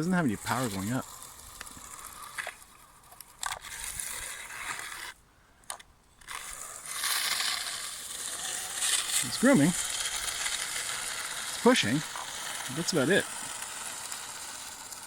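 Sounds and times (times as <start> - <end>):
electric motor gears whirring: 0.0 - 5.1, 6.2 - 15.0.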